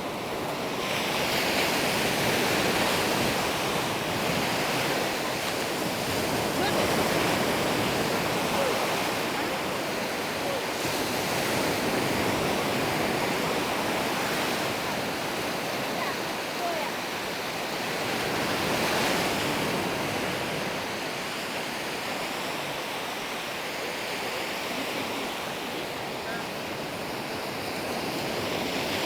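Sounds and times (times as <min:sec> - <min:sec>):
sea waves on sandy beach: 0:00.0 - 0:29.0.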